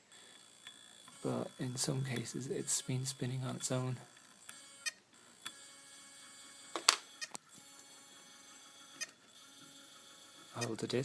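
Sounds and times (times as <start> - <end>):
hard drive clicks: 0.0 - 11.0
hard drive motor whining: 0.0 - 11.0.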